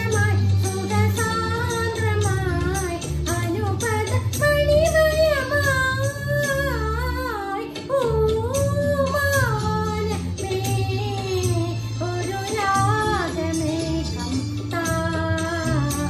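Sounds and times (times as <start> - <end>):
instrumental backing track: 0.0 - 16.0
woman singing: 0.0 - 16.0.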